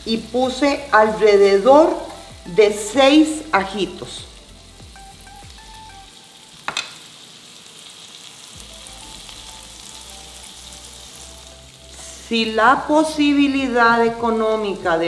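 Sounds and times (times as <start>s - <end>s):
garlic sizzling in a skillet: 0.0s - 15.0s.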